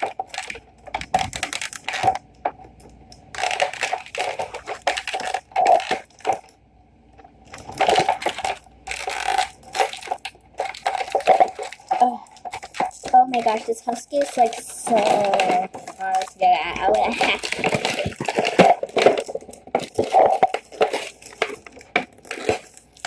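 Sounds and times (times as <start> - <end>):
plastic packaging crunching: 0.0 - 6.6, 7.2 - 23.0.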